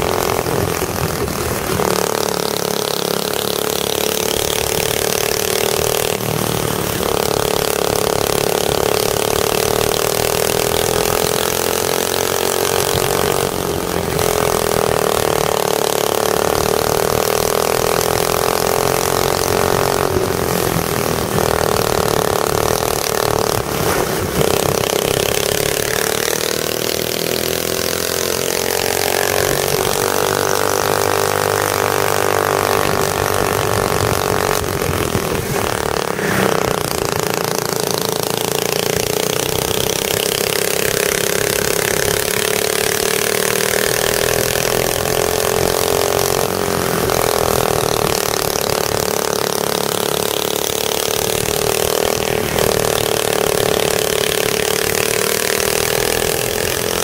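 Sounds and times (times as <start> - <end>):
go-kart engine at speed: 0.0 - 57.0.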